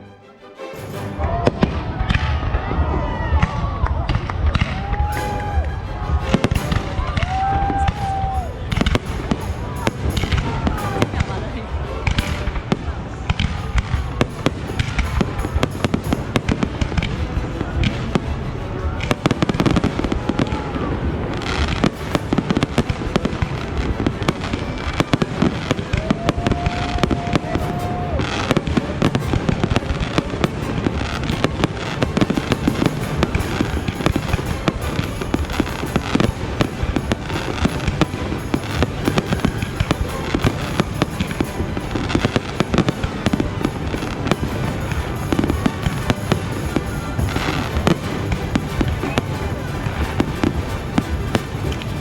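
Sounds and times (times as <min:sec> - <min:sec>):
fireworks bangs and crackles: 0:01.2 - 0:52.0.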